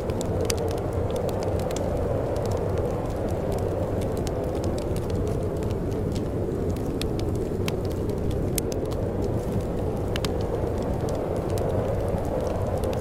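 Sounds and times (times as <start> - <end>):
wind blowing with low rumble: 0.0 - 13.0
wood fire crackling and popping: 0.0 - 13.0.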